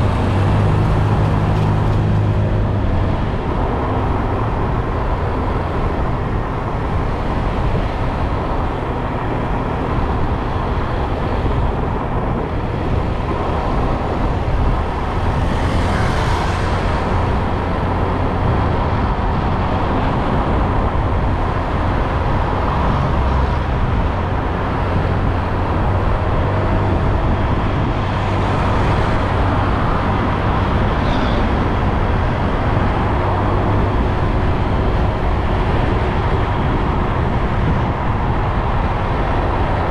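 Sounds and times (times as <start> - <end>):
motorbike engine and road noise: 0.0 - 39.9.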